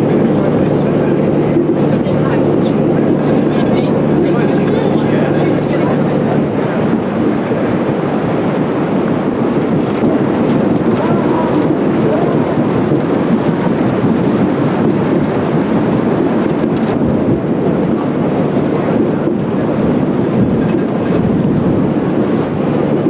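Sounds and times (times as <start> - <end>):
rushing water: 0.0 - 23.0
steamer machinery: 0.0 - 23.0
wind rumbling on microphone: 0.0 - 23.0.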